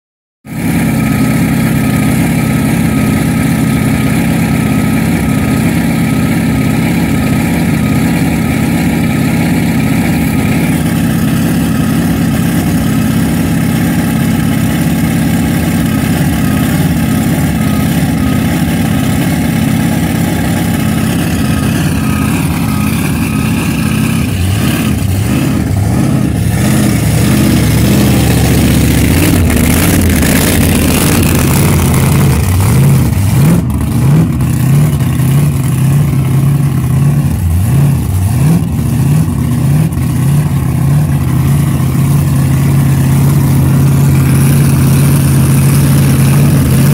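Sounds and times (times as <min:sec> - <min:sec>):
engine idling with choppy lope: 0:00.4 - 0:46.9.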